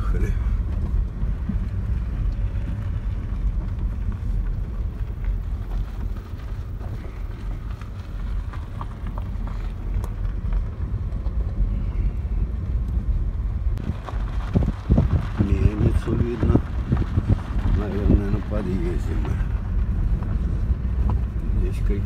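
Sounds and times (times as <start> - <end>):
car rumbling on gravel road: 0.0 - 22.0.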